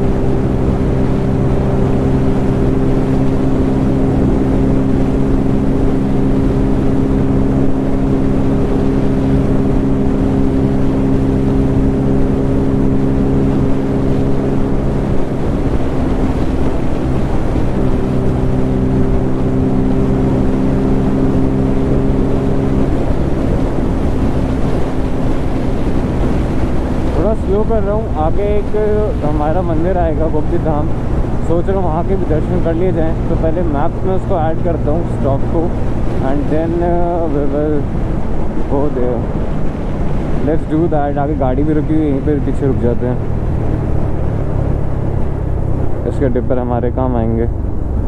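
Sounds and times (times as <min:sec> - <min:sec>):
wind rushing: 0:00.0 - 0:46.1
motorcycle engine cruising: 0:00.0 - 0:48.0.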